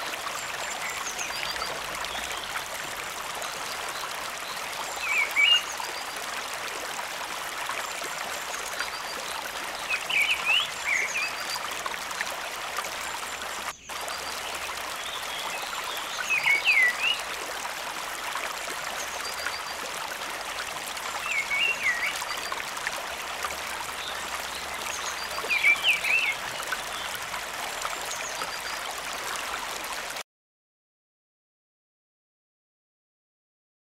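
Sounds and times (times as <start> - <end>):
rushing water: 0.0 - 30.2.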